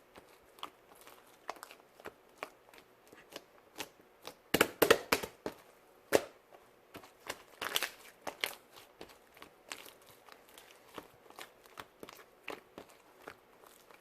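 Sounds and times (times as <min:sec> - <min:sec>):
slime squishing with sticky crackles: 0:00.0 - 0:14.0.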